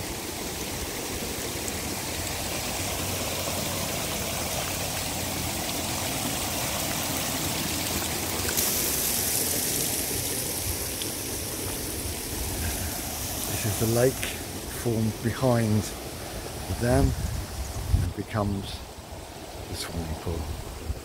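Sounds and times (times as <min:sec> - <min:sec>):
water cascading over dam wall: 0:00.0 - 0:20.7.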